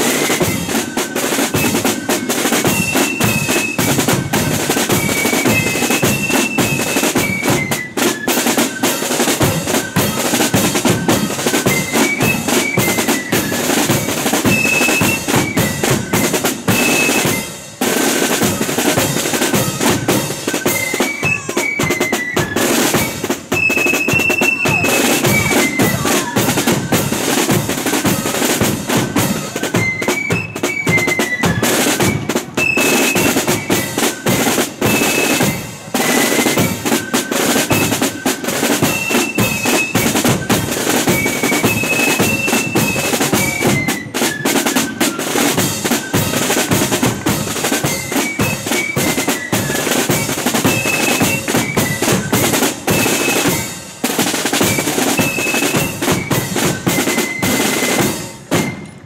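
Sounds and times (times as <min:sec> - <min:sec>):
flutes playing high melody: 0:00.0 - 0:59.0
snare drum rolls: 0:00.0 - 0:59.0.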